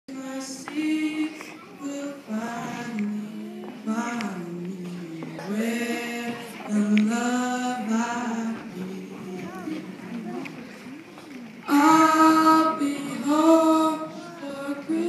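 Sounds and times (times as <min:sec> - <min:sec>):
voices singing sliding long notes: 0:00.1 - 0:10.6, 0:11.6 - 0:15.0.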